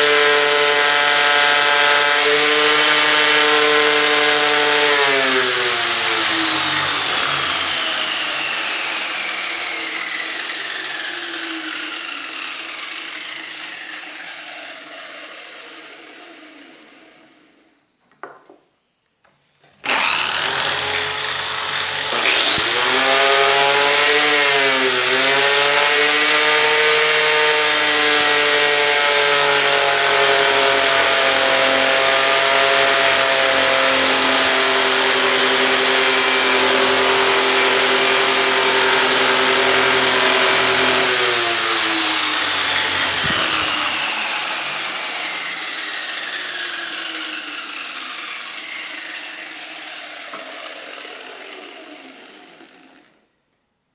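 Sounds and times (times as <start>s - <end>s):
drill cutting wood rasping: 0.0s - 17.2s, 19.8s - 53.1s
bench drill whining: 0.0s - 18.5s, 19.6s - 53.1s.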